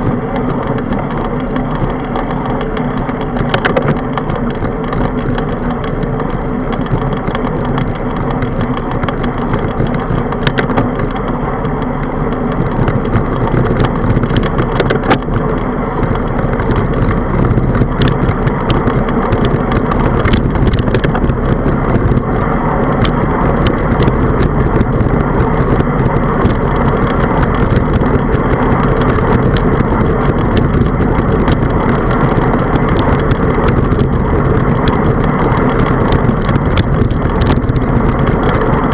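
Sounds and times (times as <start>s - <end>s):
bicycle rolling on asphalt: 0.0s - 38.9s
clicks and rattles: 0.0s - 38.9s
wind on microphone: 0.0s - 38.9s.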